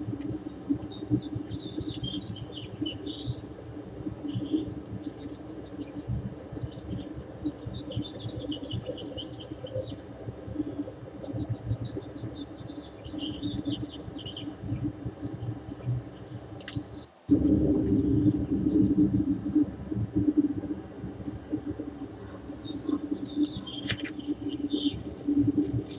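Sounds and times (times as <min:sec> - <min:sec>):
steady low background noise: 0:00.0 - 0:25.9
birds singing: 0:00.2 - 0:17.2, 0:17.9 - 0:19.8, 0:21.4 - 0:25.9.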